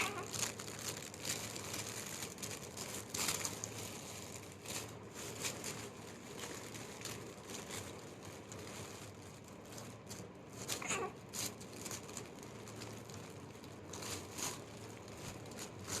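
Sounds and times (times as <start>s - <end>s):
material rustling and crinkling: 0.0s - 16.0s.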